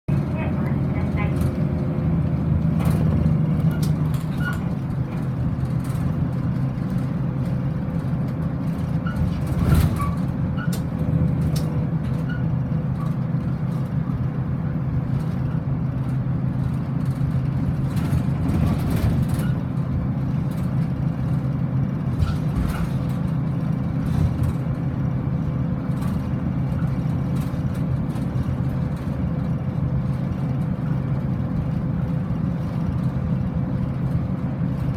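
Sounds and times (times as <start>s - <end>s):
engine and road hum: 0.0s - 34.9s.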